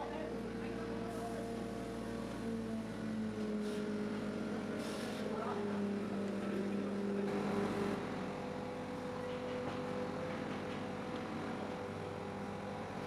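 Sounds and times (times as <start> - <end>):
heavy machine engine humming: 0.0 - 13.0.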